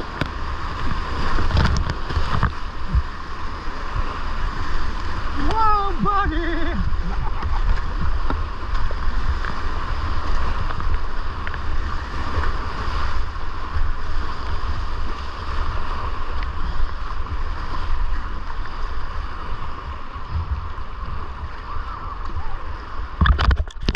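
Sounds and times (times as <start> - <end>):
whitewater roaring: 0.0 - 23.9
wind buffeting microphone: 0.0 - 23.9.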